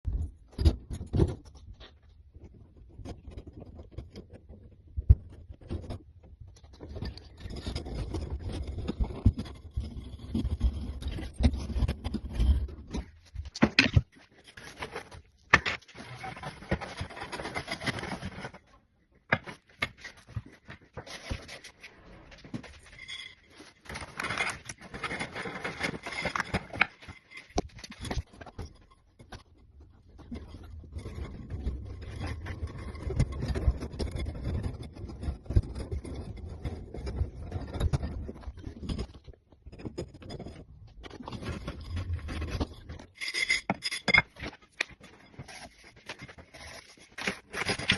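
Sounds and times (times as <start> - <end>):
scraping and rubbing: 2.4 - 47.9.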